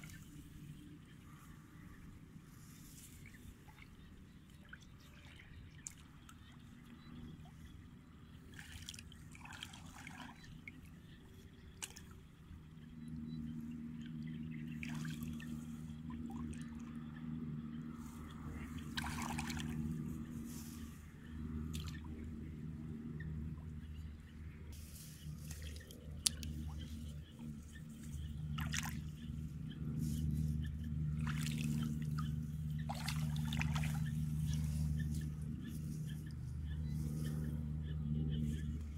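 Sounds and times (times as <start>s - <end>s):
steady low hum: 0.0s - 38.9s
muddy water splashing: 3.0s - 23.8s, 24.7s - 38.9s.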